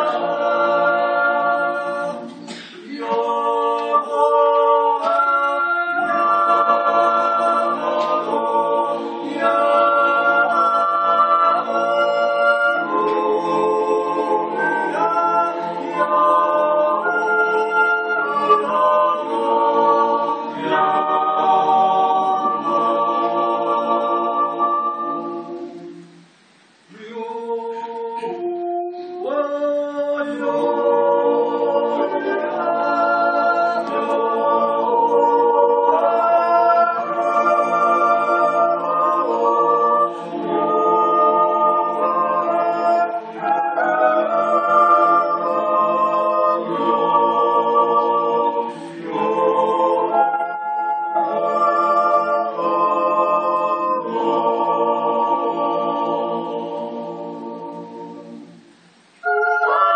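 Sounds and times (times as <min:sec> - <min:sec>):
choir singing a cappella: 0:00.0 - 0:59.9.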